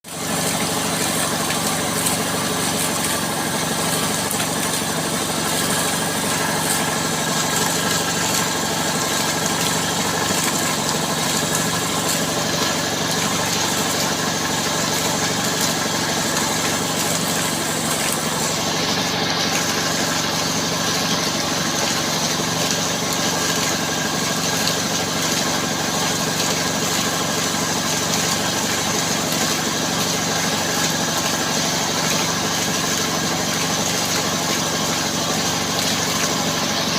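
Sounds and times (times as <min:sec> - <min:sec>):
air compressor engine running: 0:00.0 - 0:36.9.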